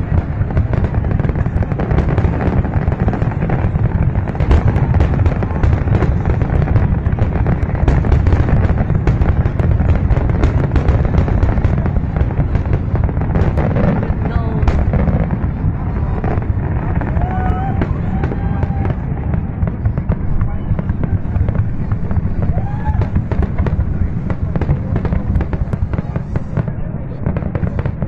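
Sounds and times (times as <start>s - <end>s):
fireworks bangs and crackles: 0.0s - 28.0s
heavy low rumble: 0.0s - 28.0s.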